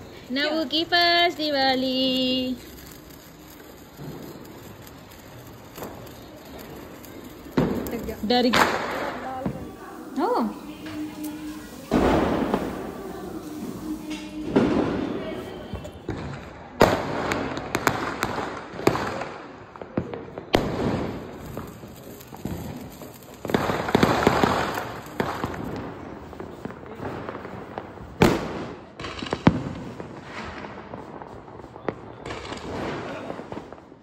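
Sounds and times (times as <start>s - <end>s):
firecracker bangs: 0.0s - 34.0s
fireworks hissing and crackling: 0.0s - 34.0s.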